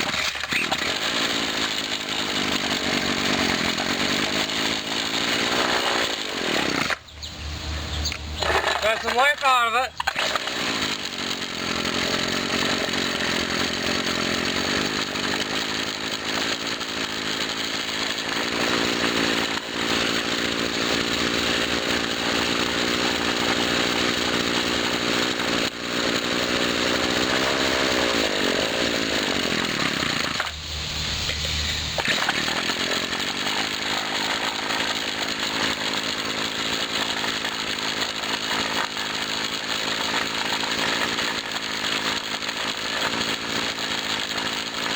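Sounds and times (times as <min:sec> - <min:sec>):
string trimmer engine running: 0:00.0 - 0:44.9.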